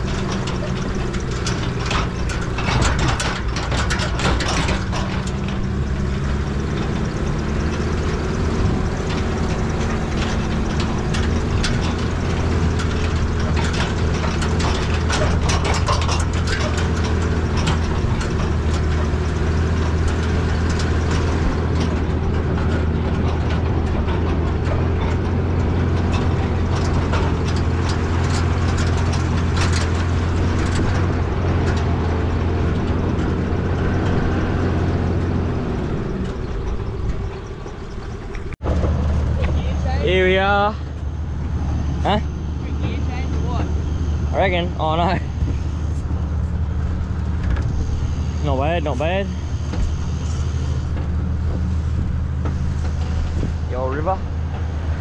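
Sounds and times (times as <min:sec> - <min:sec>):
four-wheel drive engine under load: 0:00.0 - 0:55.0
vehicle body knocks and rattles: 0:00.0 - 0:55.0.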